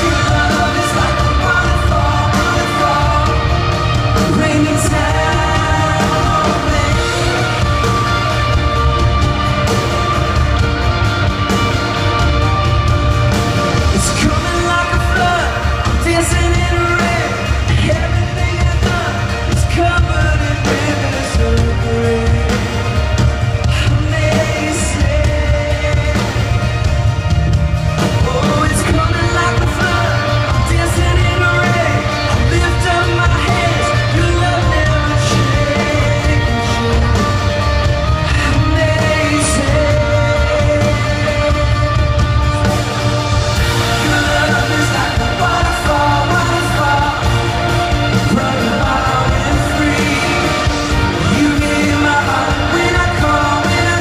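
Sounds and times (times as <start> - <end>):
live band playing pop-rock: 0.0 - 54.0
person singing: 0.0 - 54.0.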